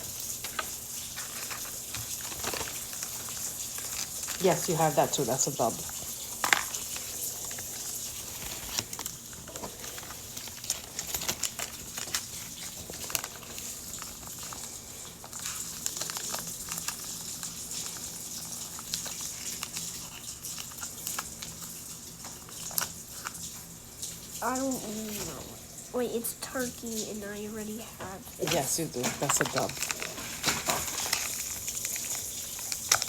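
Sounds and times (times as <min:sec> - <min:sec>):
paper and plastic wrapping rustling: 0:00.0 - 0:33.0.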